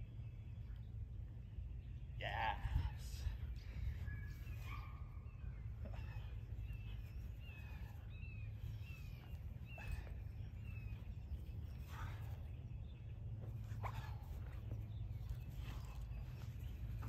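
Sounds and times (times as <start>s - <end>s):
bird chirping: 0.0s - 17.0s
low outdoor rumble: 0.0s - 17.0s.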